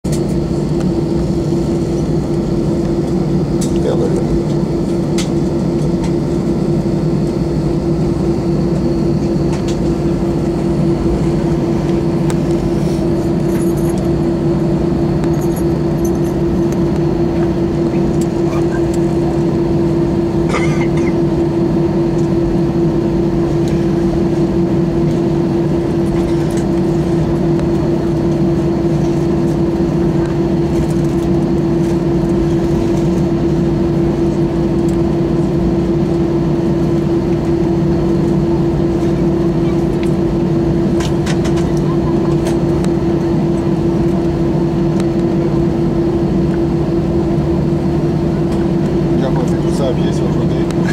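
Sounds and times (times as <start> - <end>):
airplane cabin engine drone: 0.0 - 50.9.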